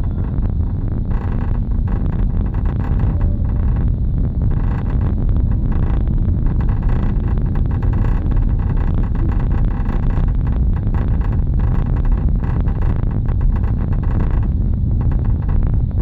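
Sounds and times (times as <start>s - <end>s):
car low rumble: 0.0s - 16.0s
rattling noise: 0.0s - 16.0s.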